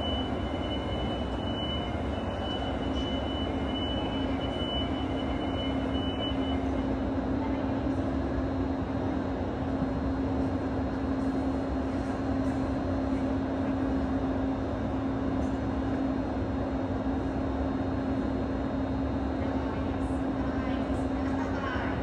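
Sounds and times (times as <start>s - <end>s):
machinery low drone: 0.0s - 22.0s.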